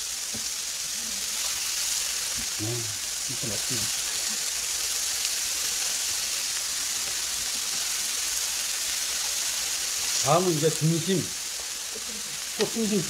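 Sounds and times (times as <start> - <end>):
beef sizzling on grill pan: 0.0 - 13.0.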